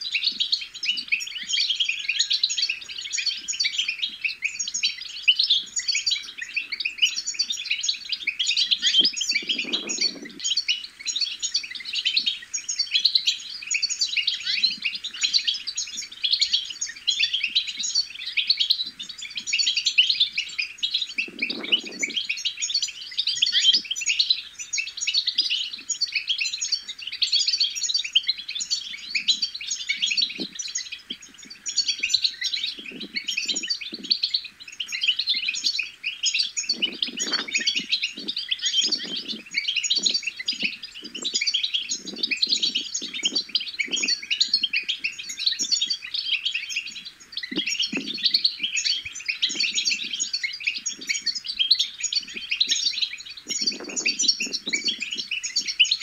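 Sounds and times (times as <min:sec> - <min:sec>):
goldfinch twittering: 0:00.1 - 0:56.0.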